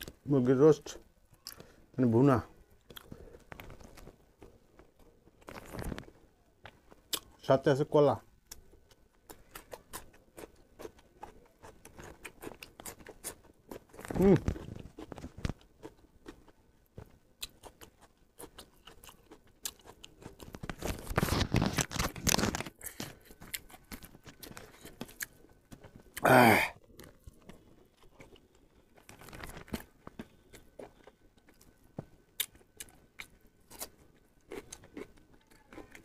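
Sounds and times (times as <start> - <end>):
chewing and crunching: 2.8 - 7.4, 8.4 - 36.0.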